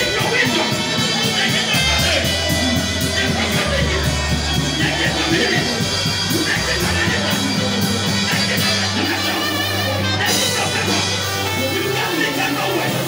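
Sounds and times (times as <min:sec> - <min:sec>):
church praise music: 0:00.0 - 0:13.0.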